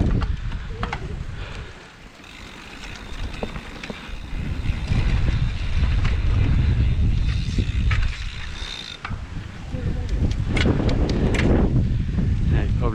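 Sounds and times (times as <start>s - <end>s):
mountain bike rattling on trail: 0.0s - 12.1s
wind buffeting microphone: 0.0s - 12.9s.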